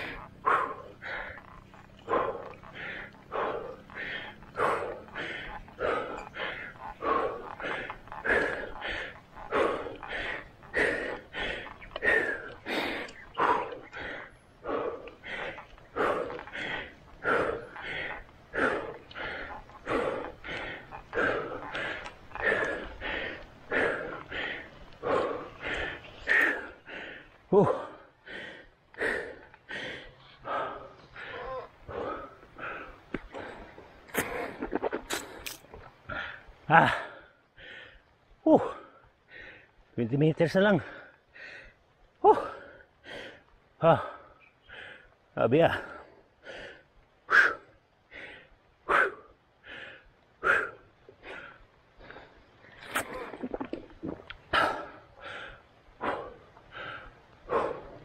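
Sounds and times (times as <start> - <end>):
person panting hard: 0.0 - 39.9, 40.8 - 53.5, 54.4 - 58.0.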